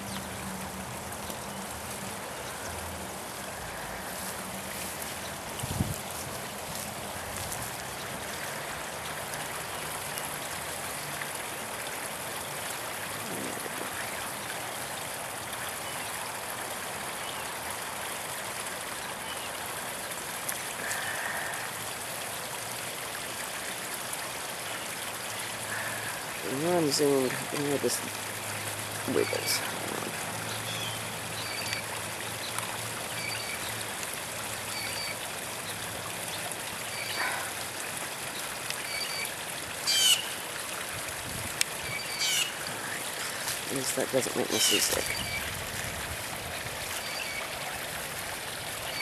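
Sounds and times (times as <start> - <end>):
running water trickling: 0.0 - 49.0.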